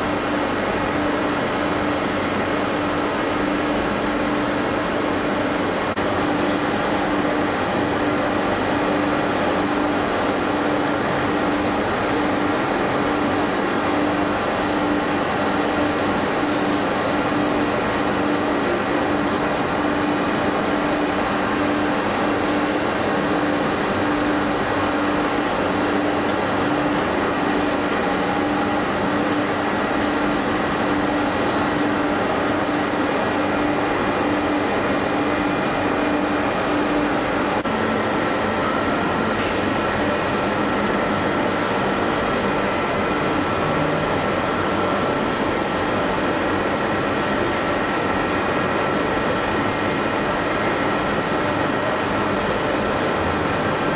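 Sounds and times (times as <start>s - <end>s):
machinery humming and whirring: 0.0s - 53.9s.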